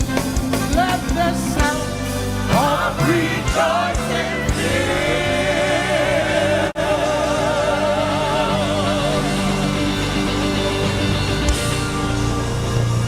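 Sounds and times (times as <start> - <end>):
gospel singing over a band: 0.5 - 11.2.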